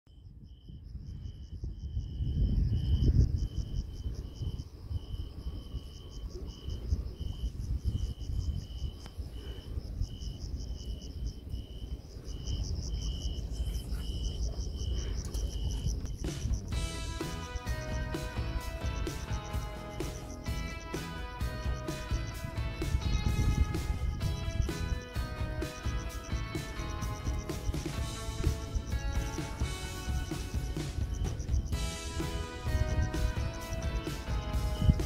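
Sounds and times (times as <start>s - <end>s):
crickets chirping: 0.1s - 35.0s.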